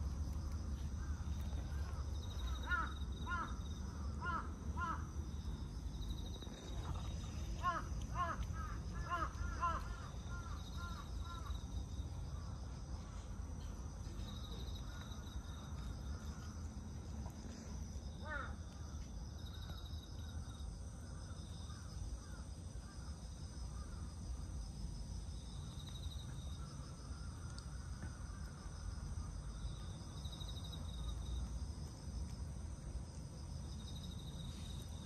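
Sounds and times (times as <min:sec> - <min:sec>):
high insect whine: 0:00.0 - 0:35.0
insects chirping in pulses: 0:00.0 - 0:35.0
low steady rumble: 0:00.0 - 0:35.0.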